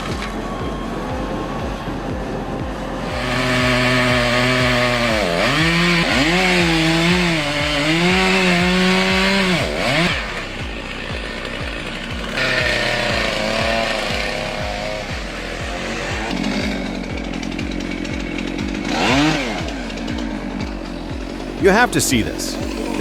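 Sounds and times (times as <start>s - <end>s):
background music with steady beat: 0.0s - 23.0s
chainsaw revving: 3.0s - 23.0s.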